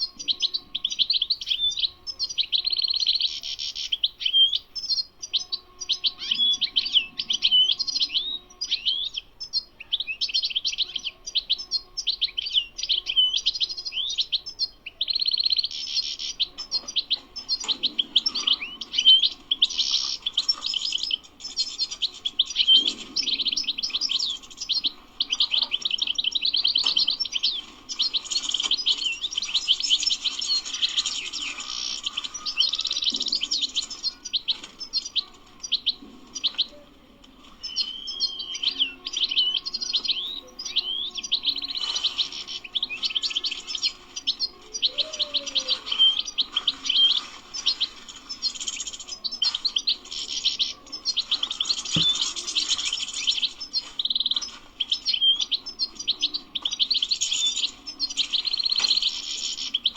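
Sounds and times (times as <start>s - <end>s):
goldfinch twittering song: 0.0s - 36.8s, 37.4s - 59.9s.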